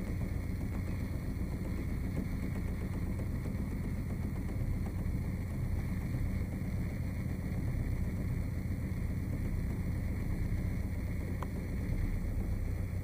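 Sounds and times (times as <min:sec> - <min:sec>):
motorboat engine low rumble: 0:00.0 - 0:13.0.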